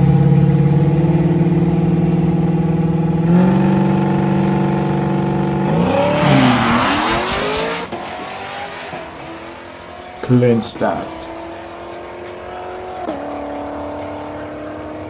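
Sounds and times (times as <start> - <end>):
car engine revving and pulling away: 0.0 - 15.0.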